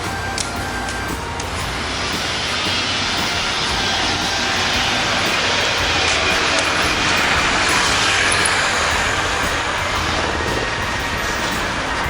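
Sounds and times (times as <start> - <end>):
train passing: 0.0 - 12.0.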